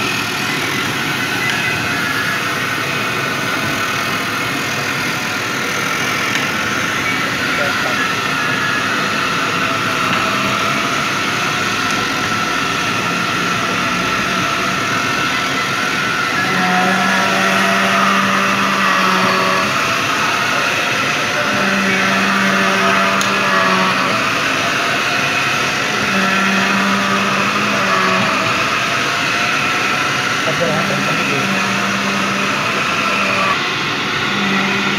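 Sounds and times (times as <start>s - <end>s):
lathe running: 0.0s - 34.9s
low hum: 0.0s - 34.9s.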